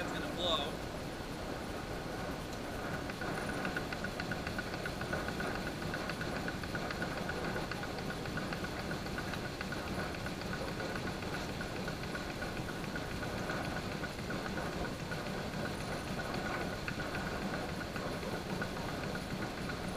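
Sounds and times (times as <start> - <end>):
fast even rattle: 0.0 - 19.9
machine hum and rumble: 0.0 - 19.9.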